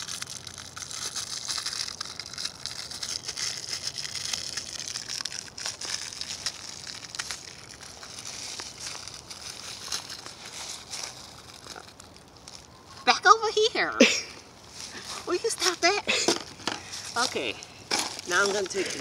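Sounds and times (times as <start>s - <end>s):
plastic bag crinkling and tearing: 0.0s - 13.7s, 14.5s - 19.0s.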